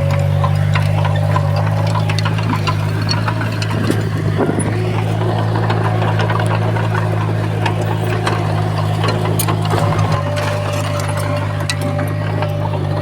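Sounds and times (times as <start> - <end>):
bulldozer diesel engine drone: 0.0 - 13.0
metallic clanks and clicks: 0.0 - 13.0.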